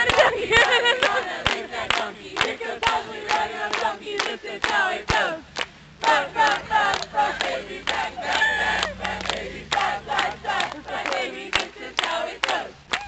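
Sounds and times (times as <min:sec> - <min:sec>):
people clapping in time: 0:00.0 - 0:13.0
group chanting: 0:00.7 - 0:05.4, 0:06.0 - 0:12.8.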